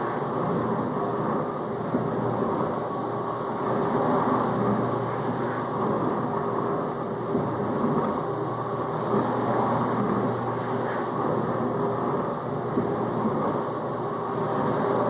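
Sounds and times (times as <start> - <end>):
dishwasher pump running: 0.0 - 15.0.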